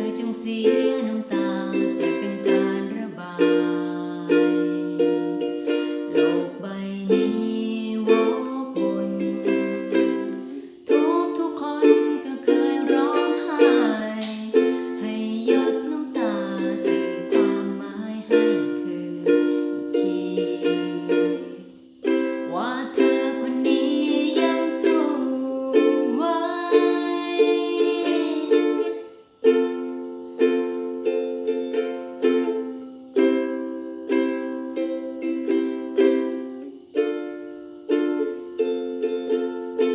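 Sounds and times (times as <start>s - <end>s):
gliding ukulele melody: 0.0s - 39.9s
ukulele strummed chords: 0.0s - 39.9s.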